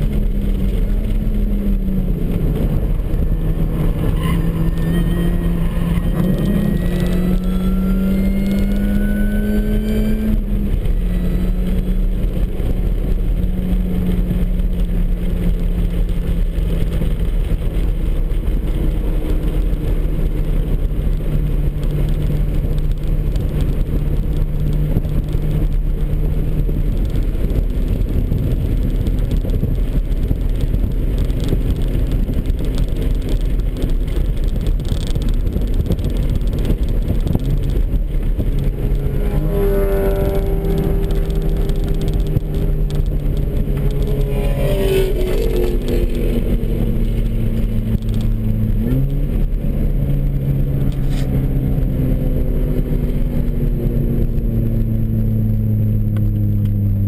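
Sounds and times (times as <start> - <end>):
car engine revving: 0.0 - 57.0
road and wind rumble: 0.0 - 57.0.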